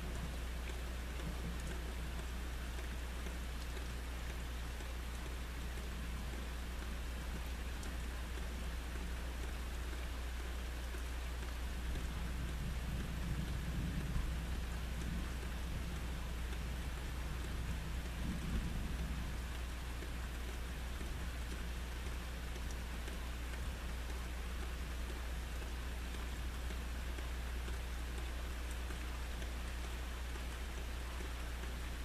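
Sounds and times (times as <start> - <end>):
steady rain hissing: 0.0 - 32.0.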